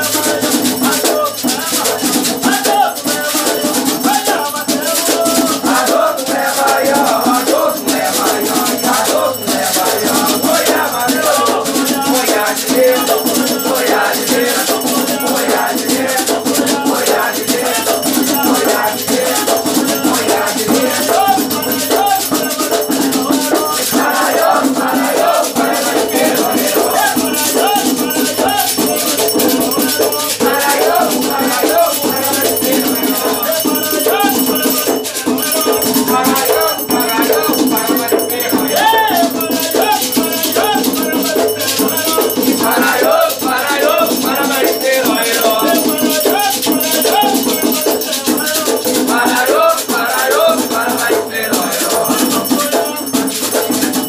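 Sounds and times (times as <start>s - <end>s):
rattles shaken rhythmically: 0.0s - 54.0s
voices singing chants: 0.0s - 54.0s.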